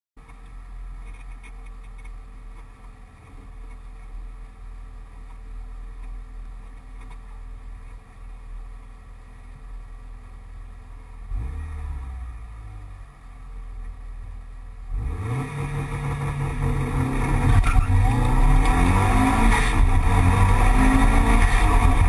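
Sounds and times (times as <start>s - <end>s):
car engine idling and revving: 0.2s - 22.0s.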